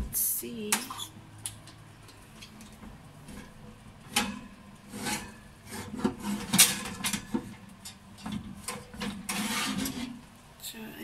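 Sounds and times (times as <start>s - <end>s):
oven rack scraping and clattering: 0.7s - 10.4s.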